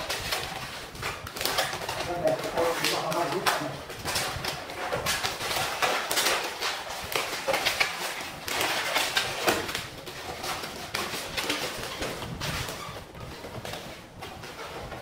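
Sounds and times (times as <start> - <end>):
balloons squeaking and creaking: 0.0 - 15.0.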